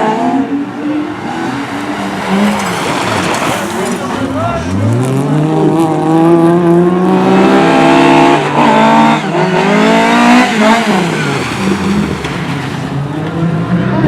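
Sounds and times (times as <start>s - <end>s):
engine passing: 0.0s - 14.0s
racing engines at full throttle: 0.0s - 14.0s.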